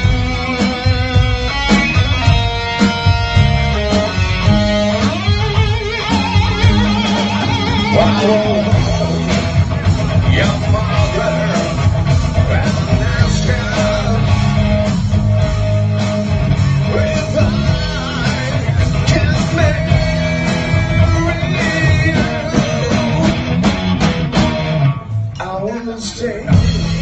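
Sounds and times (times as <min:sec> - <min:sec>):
bass guitar: 0:00.0 - 0:27.0
drums: 0:00.0 - 0:27.0
electric guitar: 0:00.0 - 0:27.0.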